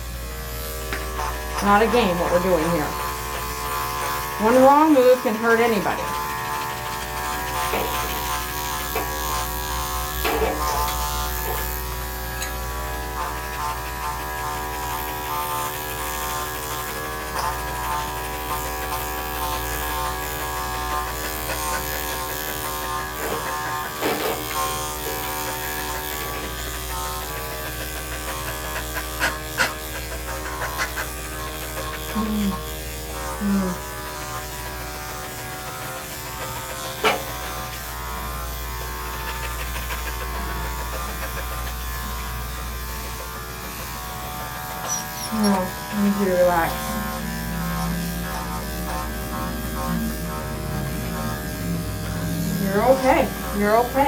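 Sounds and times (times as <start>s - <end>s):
electric clippers buzzing: 0.0s - 54.0s.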